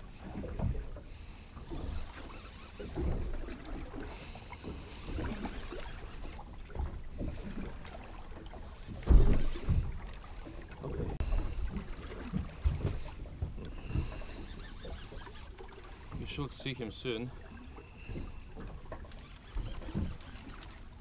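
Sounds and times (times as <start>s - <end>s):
water against boat hull: 0.0s - 21.0s.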